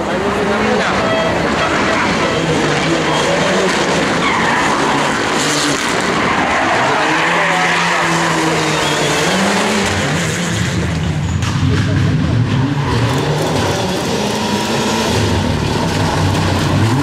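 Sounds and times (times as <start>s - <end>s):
car engine revving: 0.0s - 17.0s
tyres skidding: 0.0s - 17.0s.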